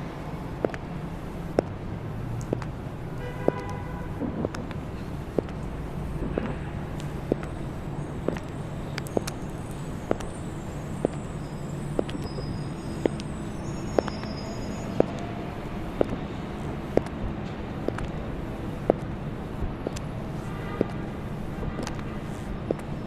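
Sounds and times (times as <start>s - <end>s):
city traffic rumble: 0.0s - 23.0s
high heels clicking on pavement: 0.2s - 23.0s.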